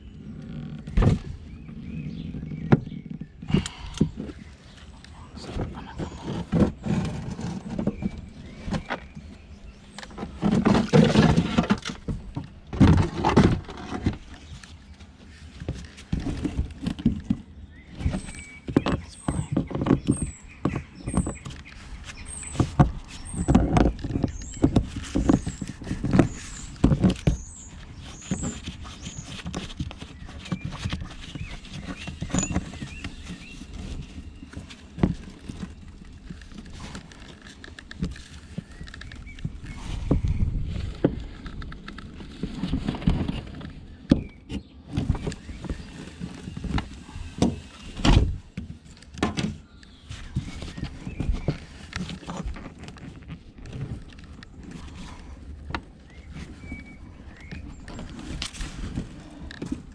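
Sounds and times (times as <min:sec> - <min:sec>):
rubble knocking and scraping: 0:00.1 - 0:59.9.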